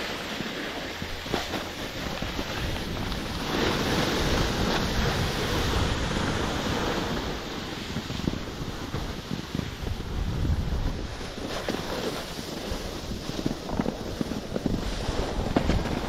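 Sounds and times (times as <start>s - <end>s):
skis sliding on snow: 0.0s - 16.0s
wind buffeting microphone: 0.0s - 16.0s.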